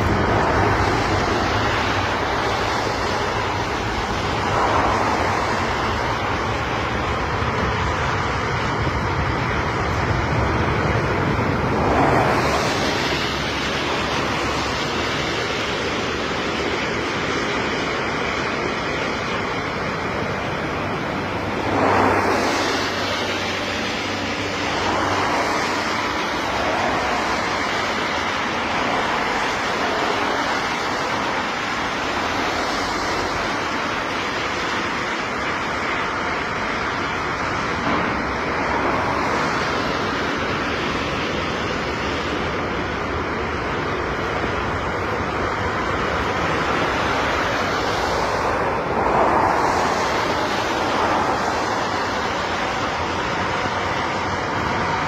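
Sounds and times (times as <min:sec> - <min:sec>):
jet engines rumbling: 0:00.0 - 0:55.0
wind on microphone: 0:00.0 - 0:55.0.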